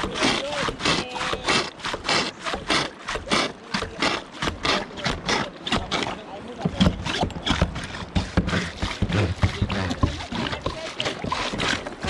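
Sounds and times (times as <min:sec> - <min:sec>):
hand bilge pump splashing water: 0:00.0 - 0:12.0.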